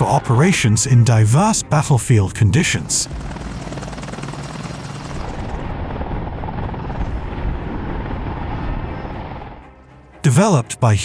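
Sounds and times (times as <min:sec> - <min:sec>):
helicopter rotor blades beating: 0:00.0 - 0:09.8
turboshaft engine whine: 0:00.0 - 0:10.5.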